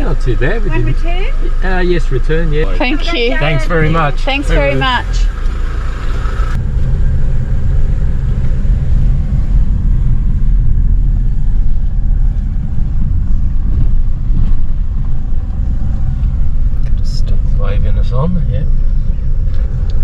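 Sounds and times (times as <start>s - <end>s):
car engine rumble: 0.0s - 20.0s
road noise inside car: 0.0s - 20.0s.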